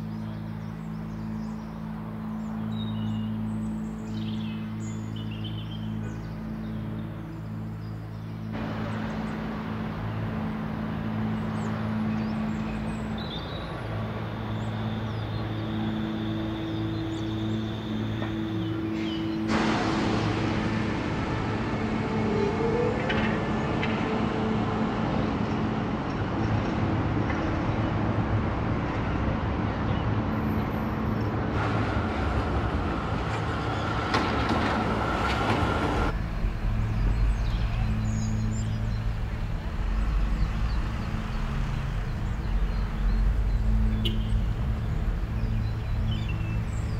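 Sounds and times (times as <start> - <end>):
low drone of sustained tones: 0.0 - 46.9
traffic: 0.0 - 46.9
tram passing: 0.0 - 46.9.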